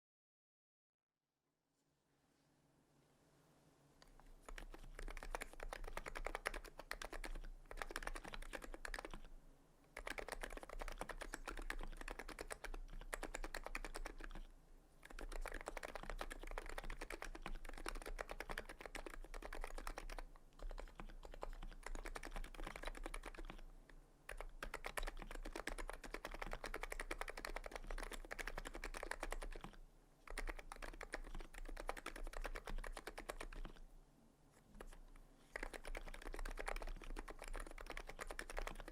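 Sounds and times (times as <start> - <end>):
fast keyboard typing: 4.2 - 9.3, 9.9 - 23.6, 24.3 - 33.8, 34.8 - 38.9.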